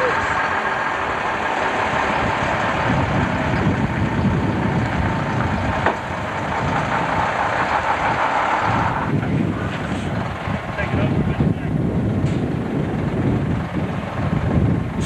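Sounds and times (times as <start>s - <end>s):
lorry diesel engine under load: 0.0s - 15.0s.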